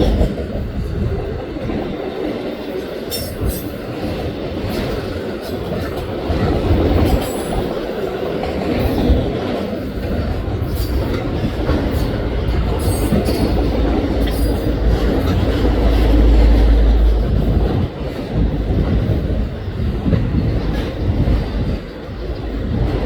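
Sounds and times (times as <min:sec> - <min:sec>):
clatter over rail joints: 0:00.0 - 0:23.0
train wheels rumbling on rails: 0:00.0 - 0:23.0.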